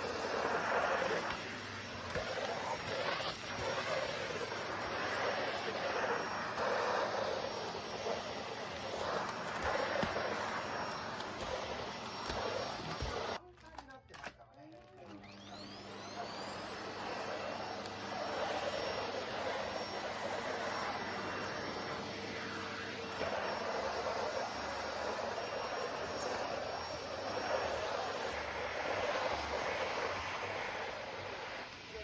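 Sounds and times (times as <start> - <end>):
vacuum cleaner running: 0.0 - 13.4, 15.0 - 32.0.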